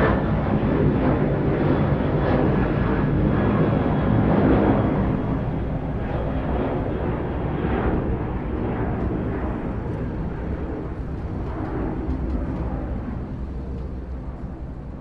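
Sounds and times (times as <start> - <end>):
airplane engine rumbling: 0.0 - 15.0.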